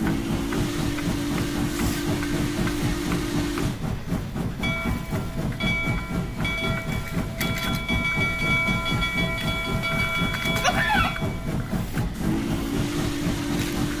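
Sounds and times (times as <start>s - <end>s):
train running clatter: 0.0s - 14.0s.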